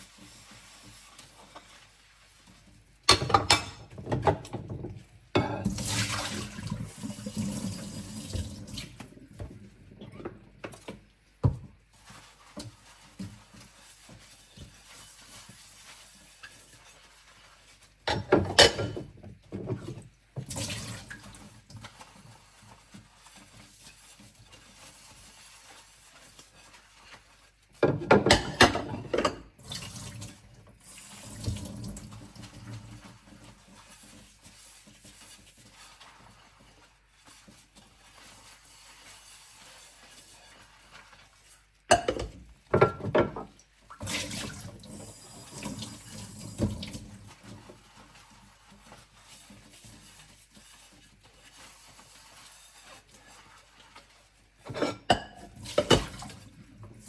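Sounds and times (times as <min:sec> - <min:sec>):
plates being scrubbed: 0:00.0 - 0:10.8, 0:11.8 - 0:57.0
water splashing in sink: 0:00.0 - 0:57.0.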